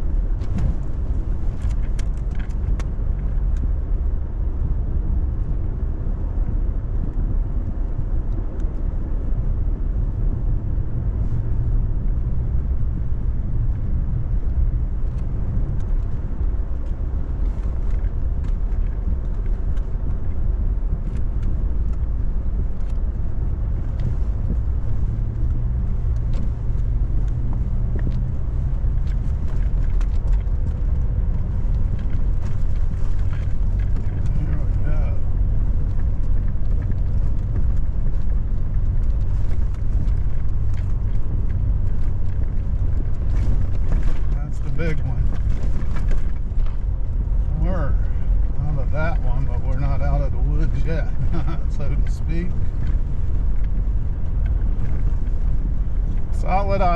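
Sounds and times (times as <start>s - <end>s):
pickup truck driving on snow: 0.0s - 56.9s.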